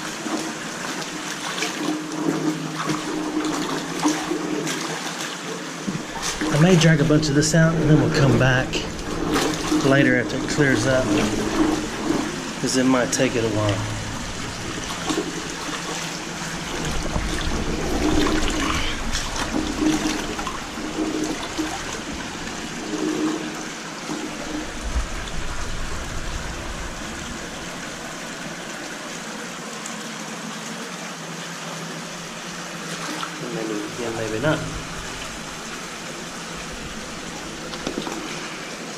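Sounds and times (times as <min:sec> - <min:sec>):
creek water splashing: 0:00.0 - 0:38.9
flowing water: 0:00.0 - 0:38.9.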